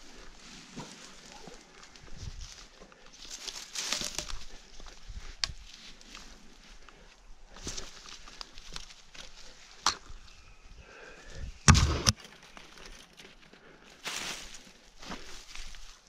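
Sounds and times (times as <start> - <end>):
footsteps in dry brush: 0.0 - 10.5, 11.6 - 16.0.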